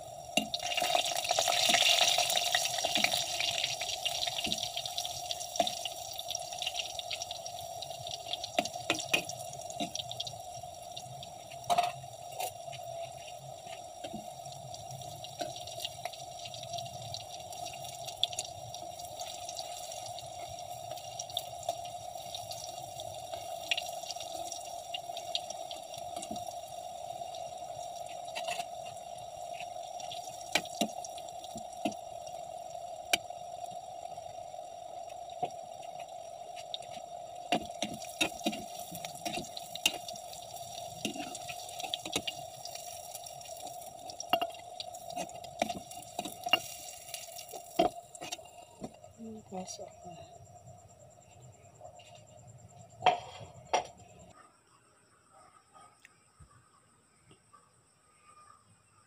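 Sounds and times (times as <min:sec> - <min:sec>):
deep-frying sizzle with pops: 0:00.0 - 0:49.9.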